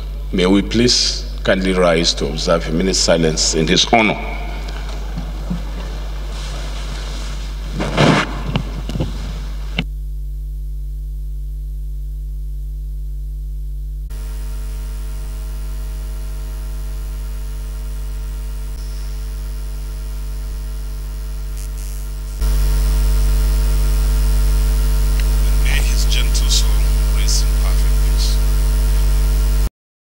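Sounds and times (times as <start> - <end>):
buzzy mains hum: 0.0 - 29.7.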